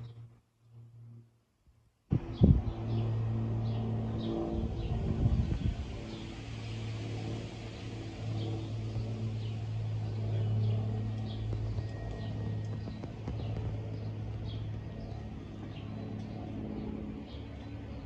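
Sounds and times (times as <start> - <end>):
propeller plane engines droning: 0.0 - 18.0.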